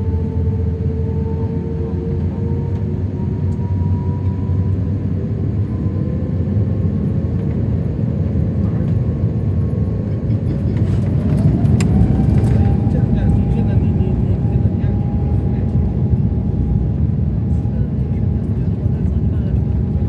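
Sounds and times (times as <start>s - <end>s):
airplane engine rumble and whine: 0.0s - 20.0s.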